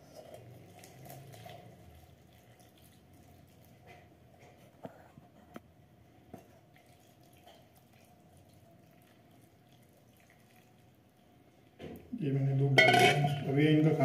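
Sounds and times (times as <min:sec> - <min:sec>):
milk trickling and dripping: 0:00.0 - 0:04.8, 0:06.2 - 0:12.7.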